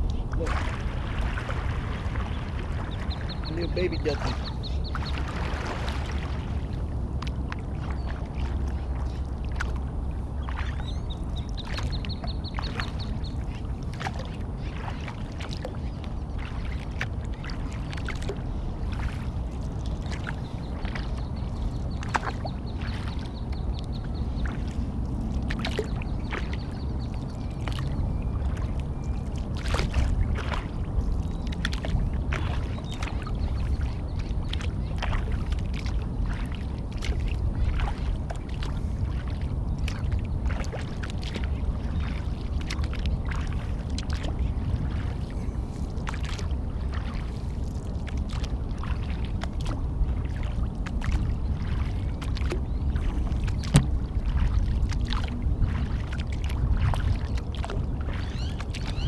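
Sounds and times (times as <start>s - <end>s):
paddle water splashes: 0.0s - 59.0s
steady low rumble: 0.0s - 59.0s.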